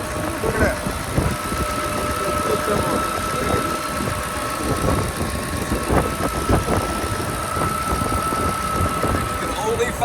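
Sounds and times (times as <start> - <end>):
high-pitched supercharger whine: 0.0 - 10.0
truck engine idling: 0.0 - 10.0.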